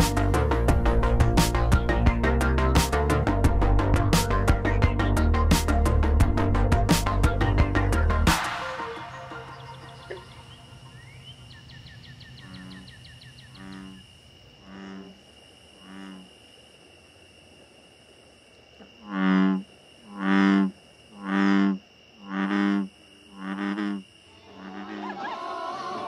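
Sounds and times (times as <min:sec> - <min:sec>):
deep droning frog calls: 0:00.0 - 0:26.0
high insect trill: 0:00.0 - 0:26.0.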